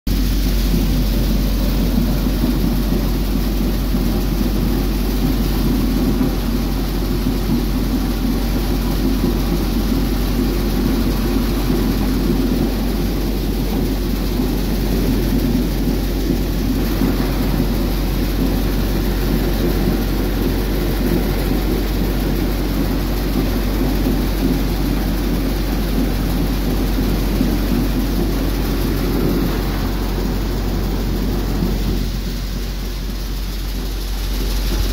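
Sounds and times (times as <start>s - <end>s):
diesel tractor engine droning: 0.1s - 34.9s
thresher rushing hiss: 0.1s - 34.9s.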